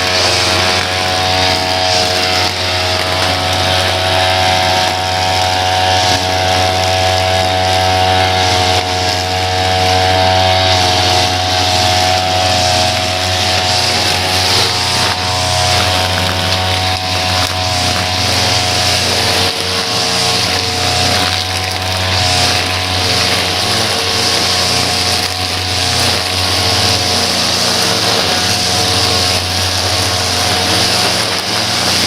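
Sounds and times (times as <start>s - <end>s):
small petrol engine running: 0.0s - 32.0s.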